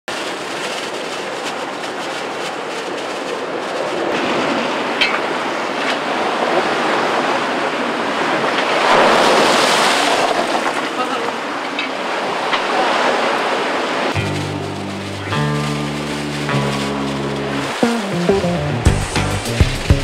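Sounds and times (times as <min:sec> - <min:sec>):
sea rushing: 0:00.2 - 0:20.0
wave spray: 0:00.2 - 0:20.0.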